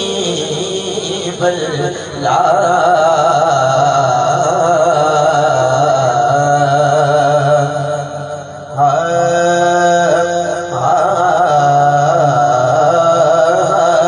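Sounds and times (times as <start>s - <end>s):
man chanting over loudspeakers: 0.0s - 14.0s.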